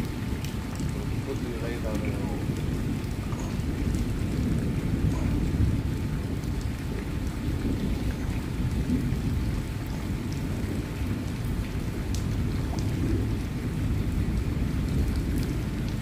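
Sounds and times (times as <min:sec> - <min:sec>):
single raindrops ticking: 0:00.0 - 0:13.6
low rumble of thunder: 0:00.0 - 0:16.0
steady rain falling: 0:00.0 - 0:16.0.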